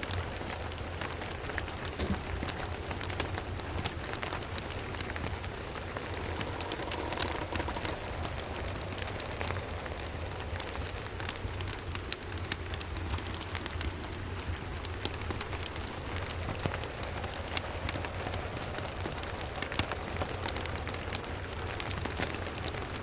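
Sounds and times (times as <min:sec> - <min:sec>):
fire crackling: 0:00.0 - 0:23.0
rain falling: 0:00.0 - 0:23.0.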